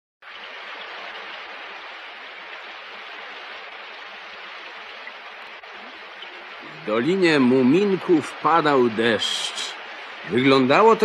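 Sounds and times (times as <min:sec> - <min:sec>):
heavy rain falling: 0:00.3 - 0:11.0.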